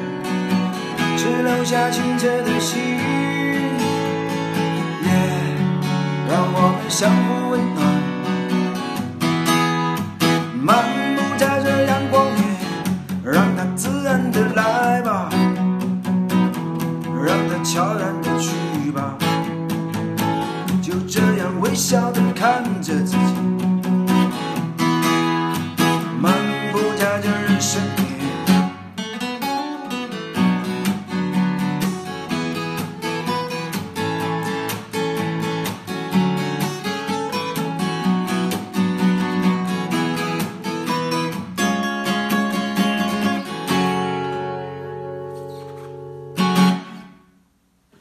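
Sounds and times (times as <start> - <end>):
acoustic guitar strumming chords: 0.0 - 48.0.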